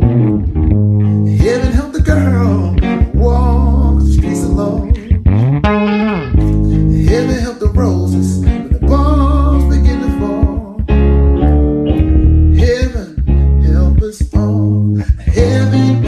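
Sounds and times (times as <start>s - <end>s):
electric bass guitar sliding notes: 0.0s - 16.0s
sustained keyboard chords: 0.0s - 16.0s.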